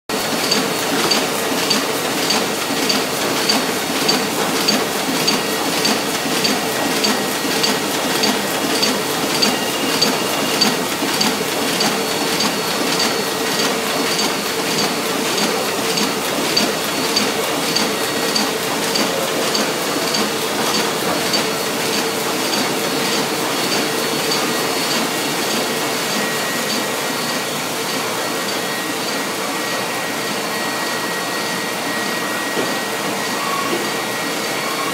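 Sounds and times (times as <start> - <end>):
printing press running: 0.1 - 34.9.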